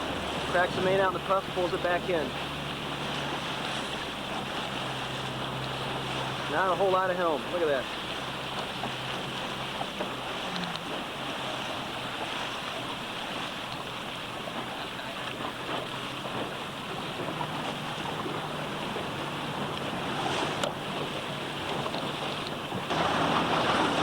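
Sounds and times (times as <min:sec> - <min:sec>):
water rushing past boat: 0:00.0 - 0:24.0.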